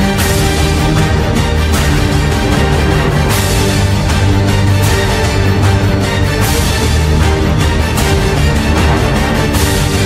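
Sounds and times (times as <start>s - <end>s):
background music with bass and drums: 0.0s - 10.0s.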